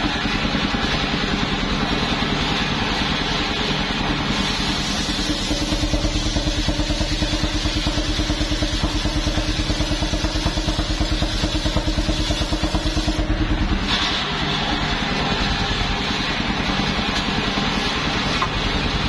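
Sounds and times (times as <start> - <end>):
sawmill engine running: 0.0 - 19.0
steady hum: 0.0 - 19.0.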